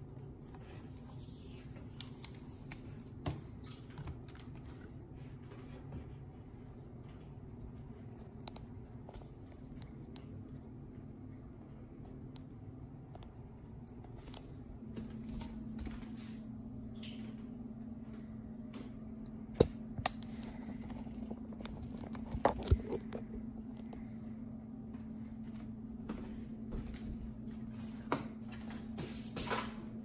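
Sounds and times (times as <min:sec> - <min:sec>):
low hum: 0:00.0 - 0:28.9.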